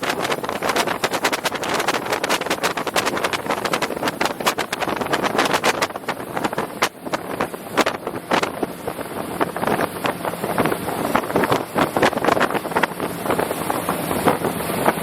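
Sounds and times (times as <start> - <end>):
boat engine drone: 0.0 - 15.0
boat hull slapping water: 0.0 - 15.0
wind buffeting microphone: 0.0 - 15.0.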